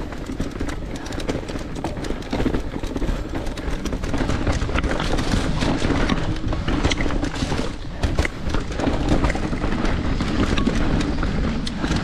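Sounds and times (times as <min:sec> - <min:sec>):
bike rattling and knocking: 0:00.0 - 0:12.0
bike tyres crunching on rock: 0:00.0 - 0:12.0.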